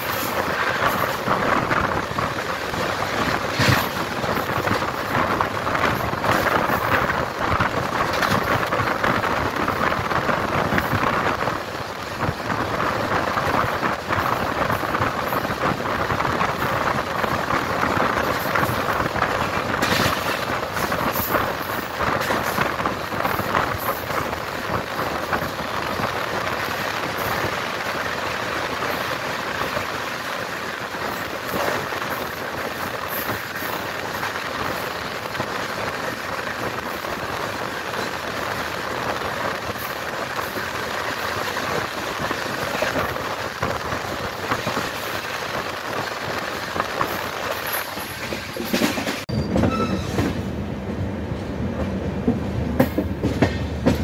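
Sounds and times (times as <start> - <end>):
wheel-on-rail noise: 0.0 - 50.4
wheels clicking over rail joints: 0.0 - 50.4.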